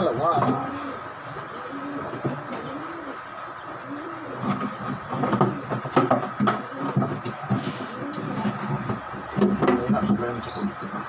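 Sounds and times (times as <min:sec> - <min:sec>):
low voices: 0:00.0 - 0:11.0.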